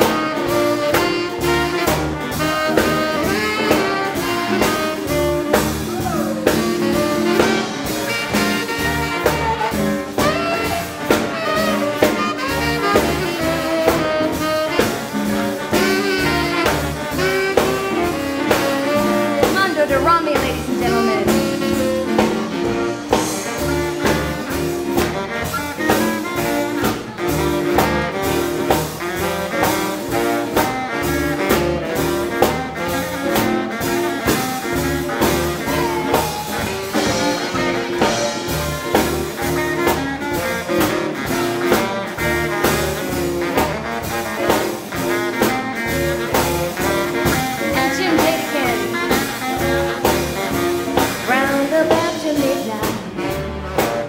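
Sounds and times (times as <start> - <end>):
swing band playing: 0.0 - 54.0.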